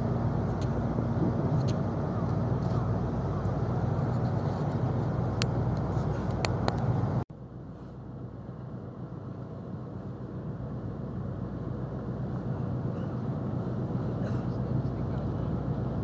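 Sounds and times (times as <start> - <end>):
outdoor noise: 0.0 - 16.0
ship engine machinery hum: 0.0 - 16.0.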